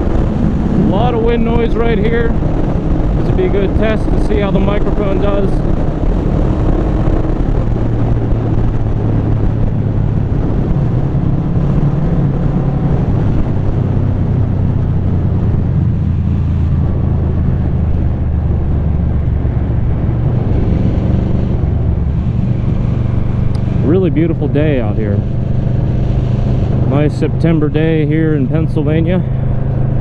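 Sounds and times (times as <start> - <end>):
motorcycle engine drone: 0.0 - 30.0
wind rushing on microphone: 0.0 - 30.0.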